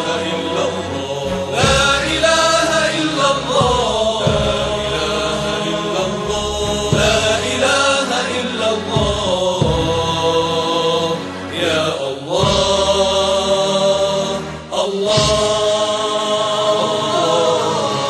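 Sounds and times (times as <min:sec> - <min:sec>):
voices chanting devotional song: 0:00.0 - 0:18.0.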